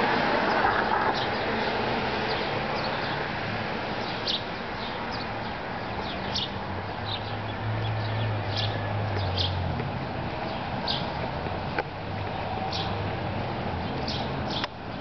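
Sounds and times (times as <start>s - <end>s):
outdoor background noise: 0.0s - 15.0s
birds chirping: 0.4s - 15.0s.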